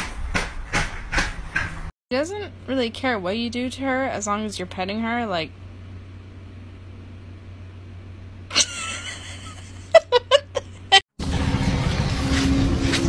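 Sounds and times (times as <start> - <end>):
noisy background with low hum: 1.2 - 13.0.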